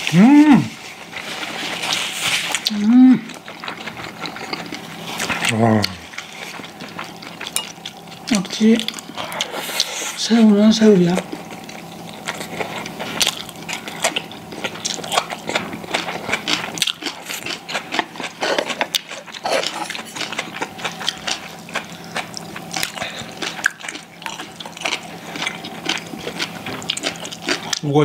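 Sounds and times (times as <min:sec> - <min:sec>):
people chewing food: 0:00.0 - 0:28.0.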